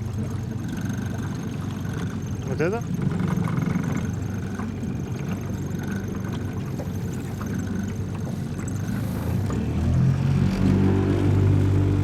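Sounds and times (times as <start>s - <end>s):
small boat motor rumbling: 0.0s - 12.0s.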